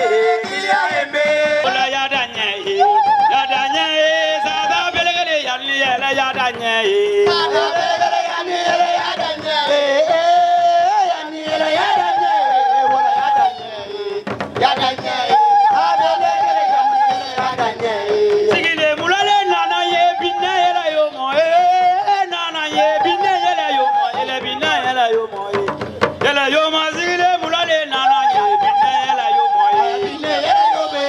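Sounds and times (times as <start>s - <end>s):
traditional dance music: 0.0s - 31.0s.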